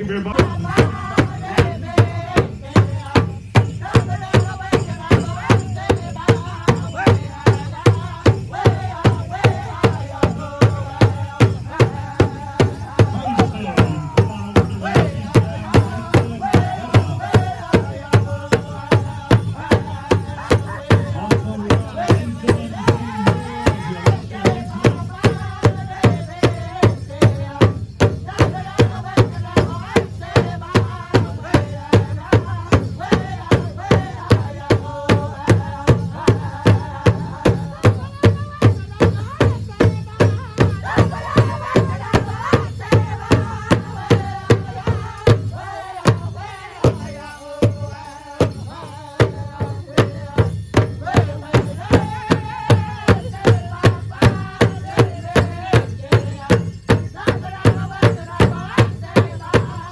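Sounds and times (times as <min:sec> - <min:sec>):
large drum steady beat: 0:00.0 - 0:59.9
voices singing: 0:00.0 - 0:59.9.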